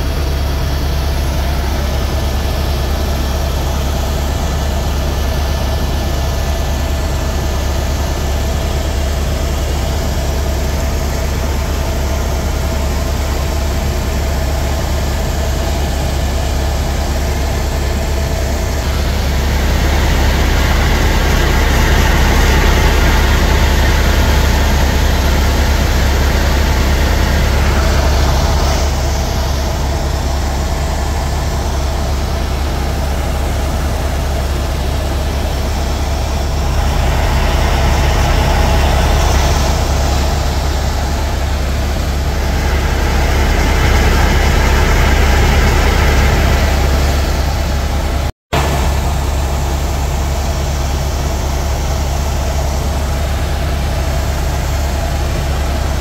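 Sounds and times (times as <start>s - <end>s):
helicopter turbine and rotor drone: 0.0s - 56.0s.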